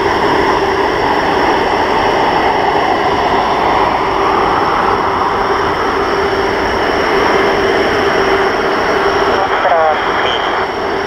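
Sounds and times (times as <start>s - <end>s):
high whine: 0.0s - 11.0s
jet engines running: 0.0s - 11.0s.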